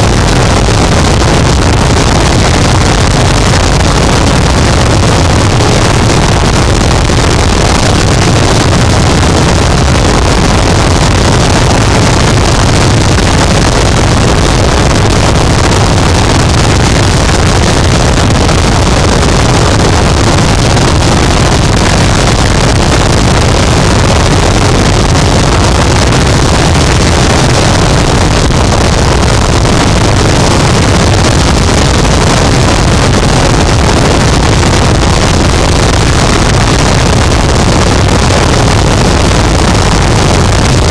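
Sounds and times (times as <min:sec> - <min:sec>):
distorted static noise wall: 0:00.0 - 0:40.9.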